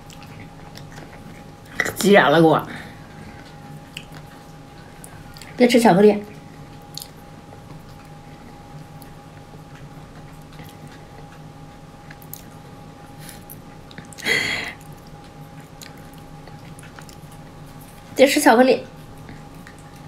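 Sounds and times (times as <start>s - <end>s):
chewing clicks: 0.0s - 2.1s, 3.4s - 5.6s, 6.3s - 12.7s, 13.3s - 18.2s, 19.0s - 20.0s
steady low hum: 0.0s - 20.0s.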